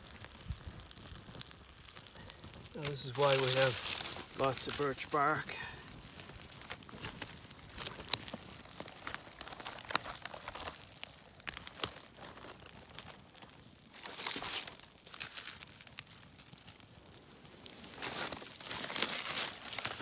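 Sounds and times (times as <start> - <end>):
birch bark crinkling and tearing: 0.0 - 20.0.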